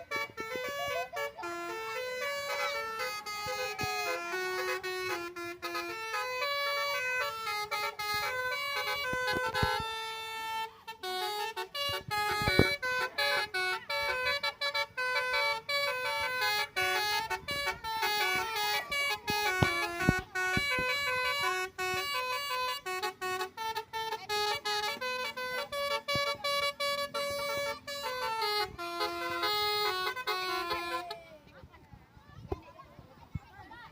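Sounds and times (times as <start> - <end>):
bus melody horn playing tune: 0.0 - 31.4.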